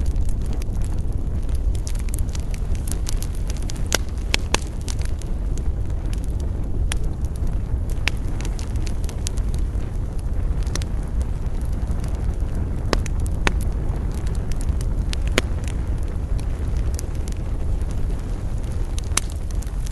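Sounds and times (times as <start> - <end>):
fire pops and snaps: 0.0 - 19.9
low rumble of flames: 0.0 - 19.9
wood fire crackling: 0.0 - 19.9.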